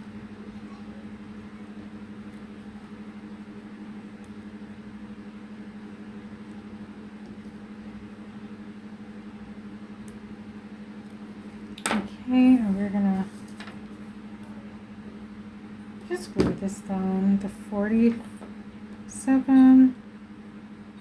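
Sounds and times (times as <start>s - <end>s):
steady low motor hum: 0.0s - 21.0s.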